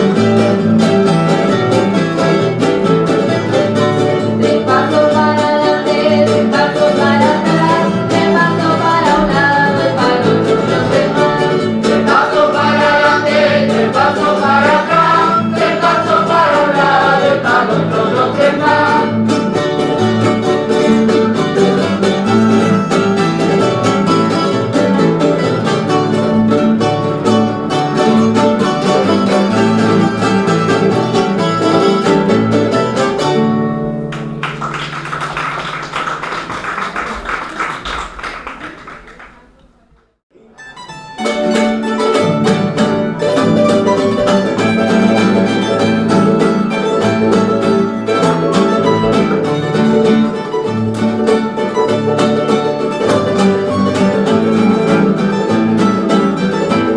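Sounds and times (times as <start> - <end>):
folk string ensemble playing: 0.0 - 34.2, 40.6 - 56.9.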